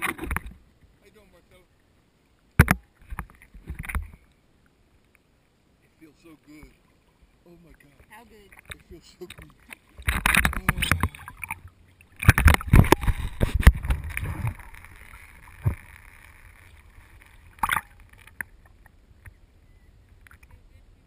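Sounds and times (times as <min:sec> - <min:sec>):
water splashing and sloshing: 0:00.0 - 0:19.4.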